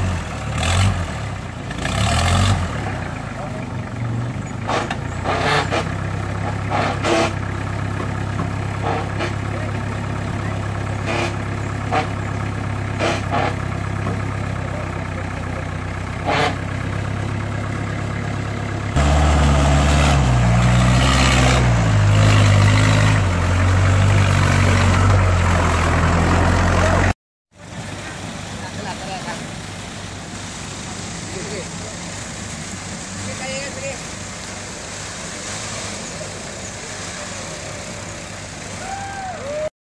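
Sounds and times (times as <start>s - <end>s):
jeep engine running: 0.0s - 39.7s.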